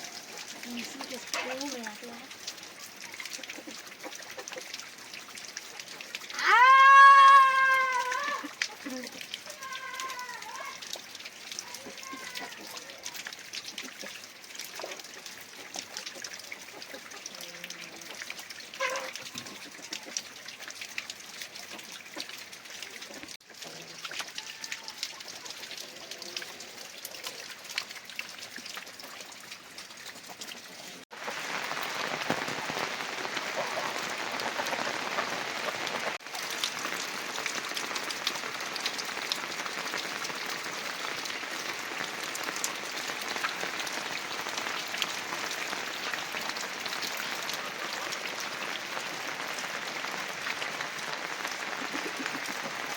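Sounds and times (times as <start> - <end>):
heavy rain falling: 0.0 - 28.8, 29.4 - 52.9.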